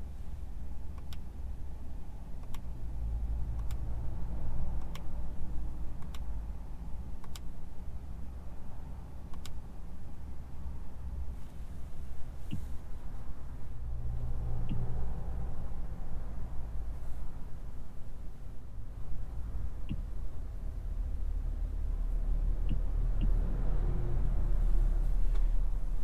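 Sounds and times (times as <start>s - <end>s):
low hum in car cabin: 0.0s - 26.0s.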